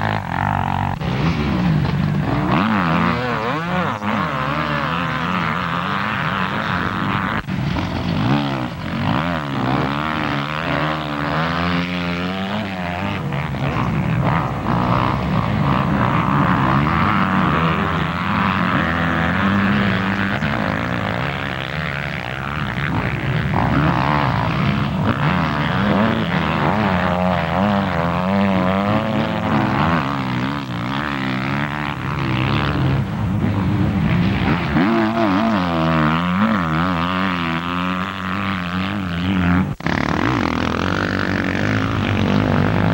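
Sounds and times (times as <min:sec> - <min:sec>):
motocross bikes revving: 0:00.0 - 0:42.9.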